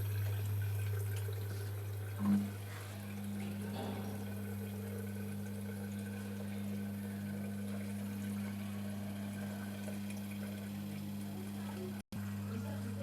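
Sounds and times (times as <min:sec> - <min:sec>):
drain pump humming: 0:00.0 - 0:13.0.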